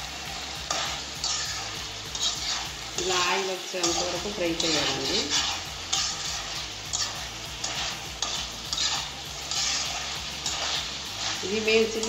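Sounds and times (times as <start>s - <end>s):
chicken sizzling in oil: 0.0s - 12.0s
spatula scraping pan: 0.0s - 12.0s.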